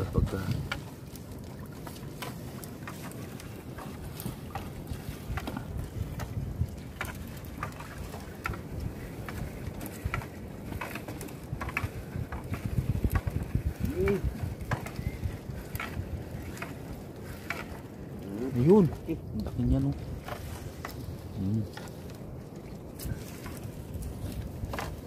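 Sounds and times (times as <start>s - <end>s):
low wash of water: 0.0s - 25.0s
water splashing and dripping: 0.0s - 25.0s
wind: 0.0s - 25.0s.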